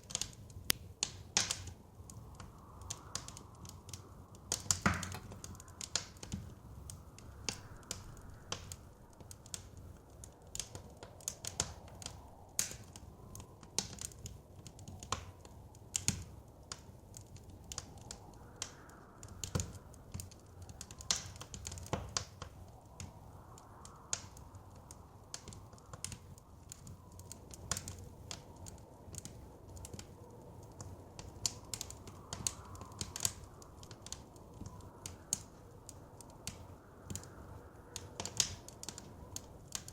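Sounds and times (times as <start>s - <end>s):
soft wind noise: 0.0s - 39.9s
wood fire crackling and popping: 0.0s - 39.9s.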